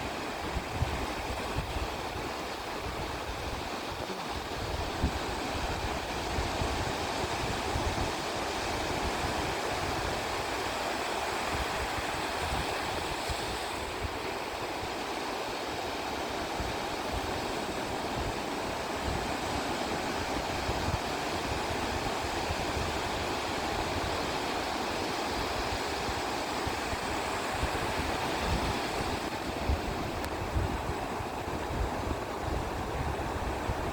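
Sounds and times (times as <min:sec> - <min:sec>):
sea waves washing onto beach: 0:00.0 - 0:33.9
wind rumble on microphone: 0:00.0 - 0:33.9.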